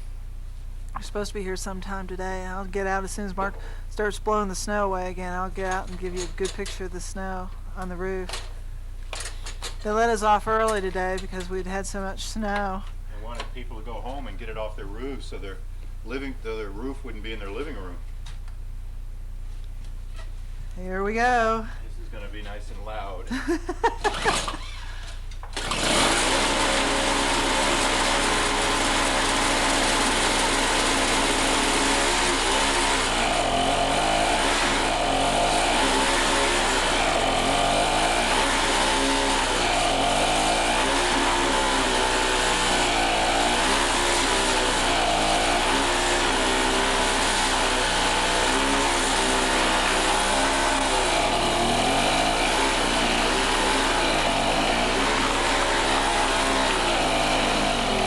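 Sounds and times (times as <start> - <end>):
snow blower engine running: 1.0 - 17.9, 20.8 - 58.0.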